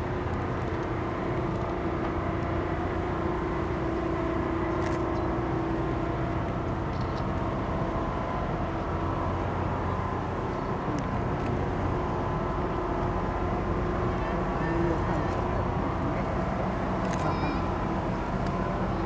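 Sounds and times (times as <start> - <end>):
ship engines droning: 0.0 - 19.0.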